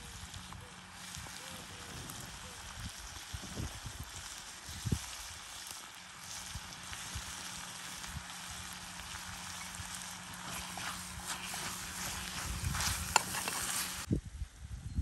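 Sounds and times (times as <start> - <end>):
food sizzling in hot oil: 0.0 - 14.1.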